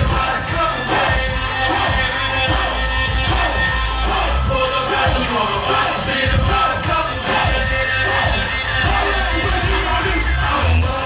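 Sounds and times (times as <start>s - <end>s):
bass-heavy hip hop music: 0.0s - 11.0s.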